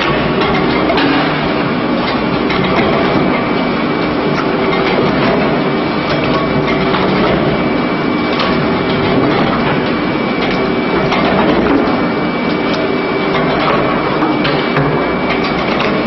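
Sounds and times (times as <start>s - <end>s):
low machine hum: 0.0s - 16.0s
machinery clanks and knocks: 0.0s - 16.0s
thin steady machine whine: 0.0s - 16.0s.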